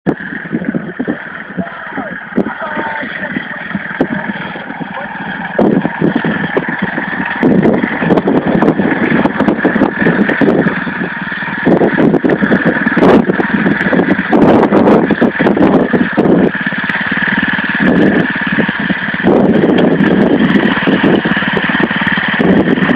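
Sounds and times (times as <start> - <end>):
lawn tractor engine running hard: 0.1 - 22.9.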